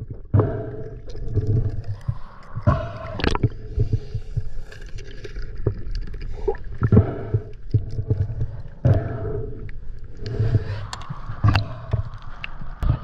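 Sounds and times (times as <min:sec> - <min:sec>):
underwater water rumble: 0:00.0 - 0:13.0.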